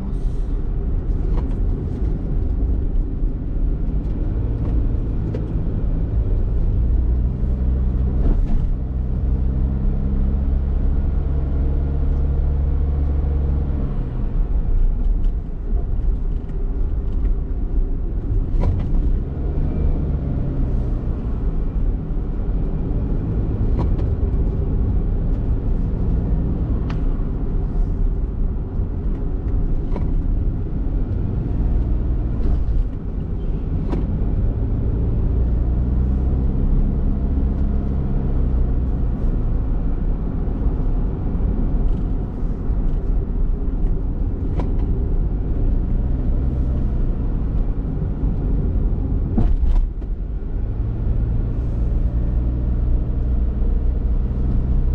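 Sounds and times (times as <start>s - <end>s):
car engine rumble: 0.0s - 54.9s.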